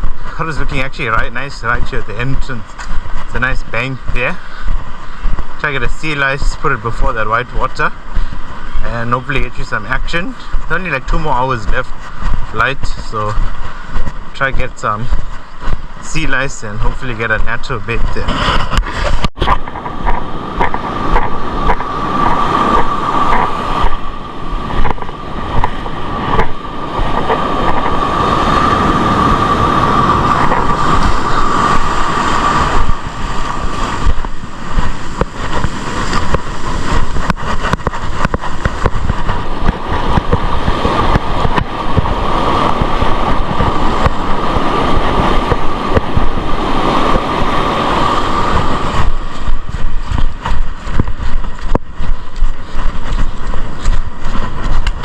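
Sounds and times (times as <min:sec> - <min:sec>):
surf rushing: 0:00.0 - 0:55.0
wind buffeting microphone: 0:00.0 - 0:55.0.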